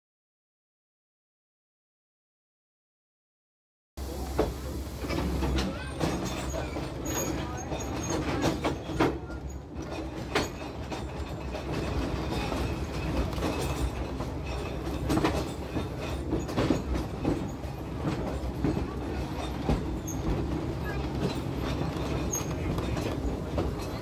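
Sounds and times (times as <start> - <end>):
railroad car rumble: 4.0 - 24.0
wheels clicking over rail joints: 4.1 - 24.0.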